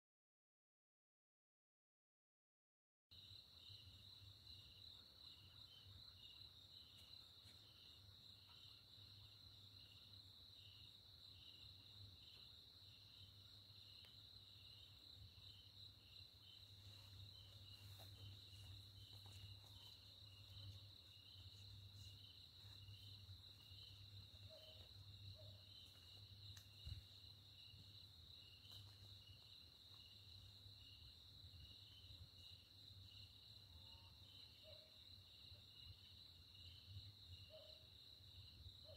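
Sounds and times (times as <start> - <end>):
cricket chirping: 3.1 - 38.9.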